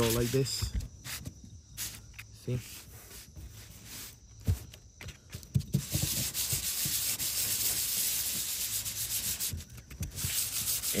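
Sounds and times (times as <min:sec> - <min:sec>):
metal scraping on sandpaper: 0:00.0 - 0:04.2, 0:05.7 - 0:11.0.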